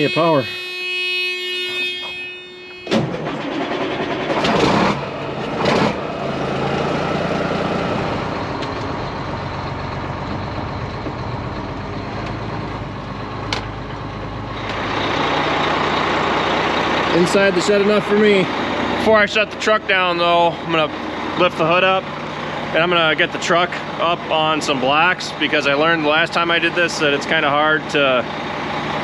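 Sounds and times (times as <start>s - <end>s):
diesel truck engine running: 2.6s - 29.0s.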